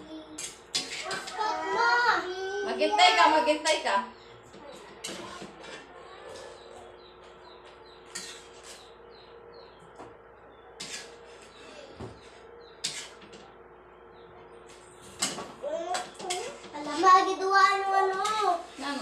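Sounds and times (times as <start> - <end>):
birds chirping: 0.0 - 19.0
steady low hum: 2.1 - 19.0.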